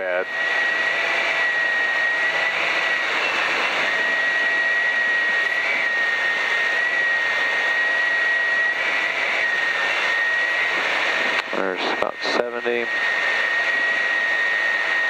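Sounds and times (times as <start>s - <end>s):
airflow over cabin: 0.0s - 15.0s
piston engine and propeller: 0.0s - 15.0s
steady high whine: 0.0s - 15.0s.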